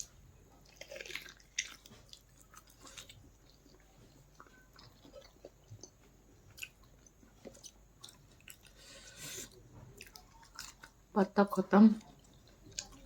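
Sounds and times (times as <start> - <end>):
chewing and mouth sounds: 0.0 - 11.0, 12.0 - 13.0.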